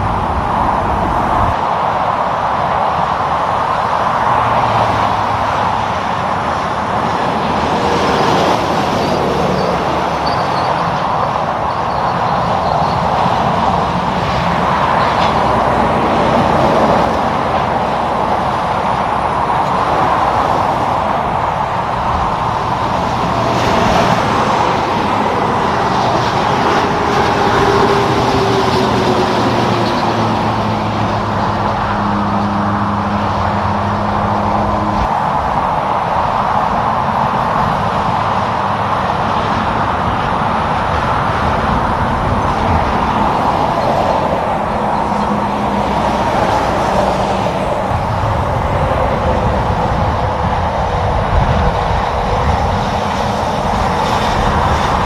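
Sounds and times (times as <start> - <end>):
highway traffic roar: 0.0 - 55.0
vehicle passing by: 0.0 - 55.0.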